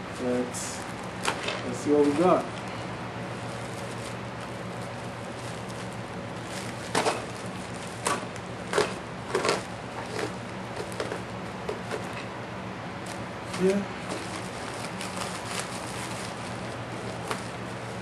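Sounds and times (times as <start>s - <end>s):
plastic mailer crinkling and tearing: 0.8s - 12.1s, 13.0s - 18.0s.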